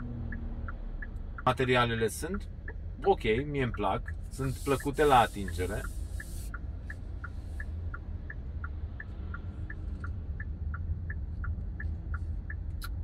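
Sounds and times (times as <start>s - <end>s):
low road rumble: 0.0s - 13.0s
turn signal ticking: 0.0s - 13.0s.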